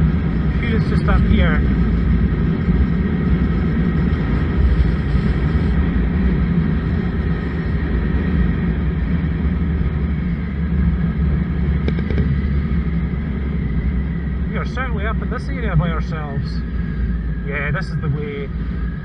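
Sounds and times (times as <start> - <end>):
motorcycle engine and wind rumble: 0.0 - 19.0.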